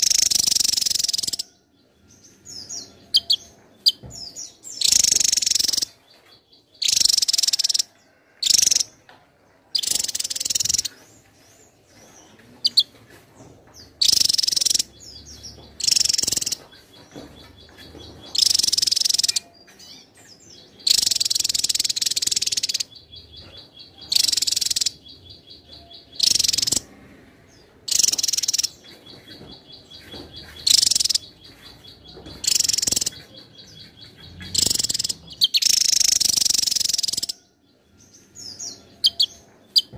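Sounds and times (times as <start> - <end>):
bird singing high rapid phrases: 0.0 - 9.0, 9.7 - 39.9.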